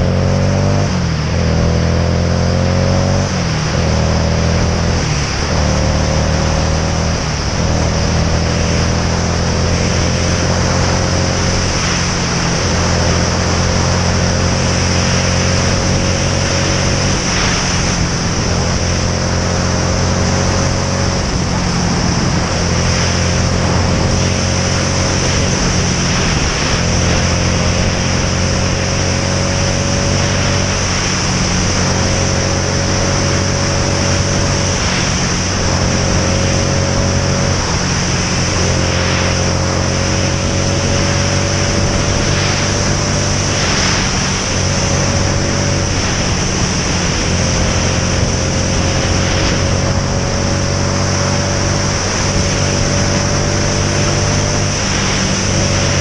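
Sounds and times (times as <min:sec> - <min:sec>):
heavy wind rush: 0:00.0 - 0:56.0
motorcycle engine revving: 0:00.0 - 0:56.0.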